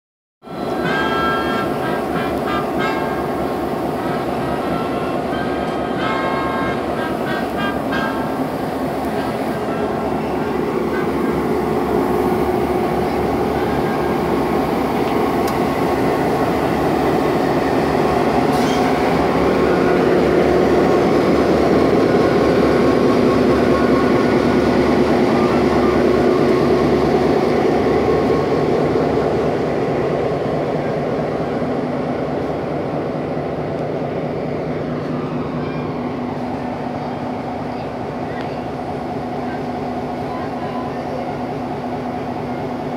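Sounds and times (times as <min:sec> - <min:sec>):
diesel locomotive engine idling: 0:00.5 - 0:42.9.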